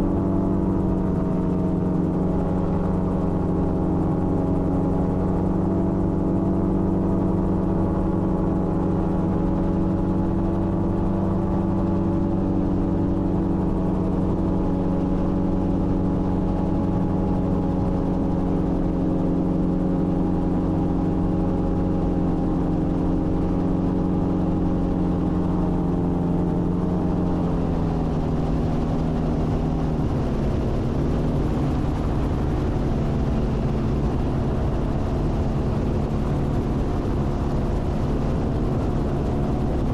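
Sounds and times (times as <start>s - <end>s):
propeller engine in flight: 0.0s - 39.9s.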